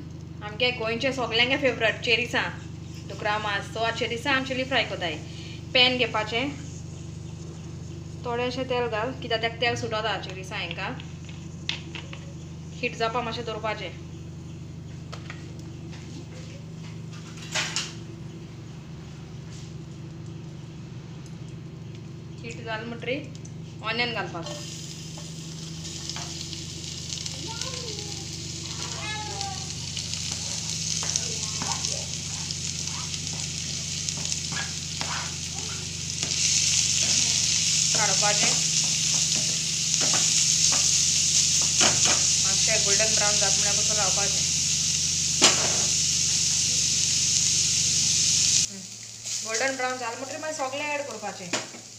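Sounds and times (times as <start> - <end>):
onions sizzling in hot oil: 0.0 - 18.4, 19.3 - 51.9
kitchen background hum: 0.0 - 51.9.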